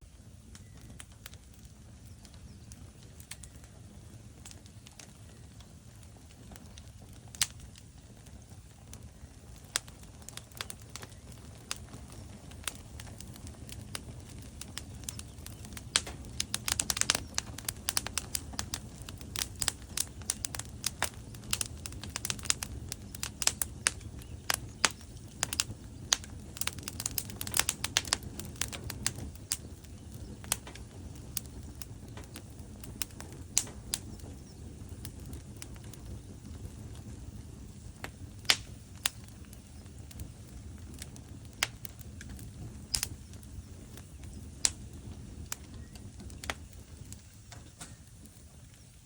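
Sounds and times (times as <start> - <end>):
burning logs crackling and popping: 0.0 - 49.0
low rumble of flames: 0.0 - 49.0.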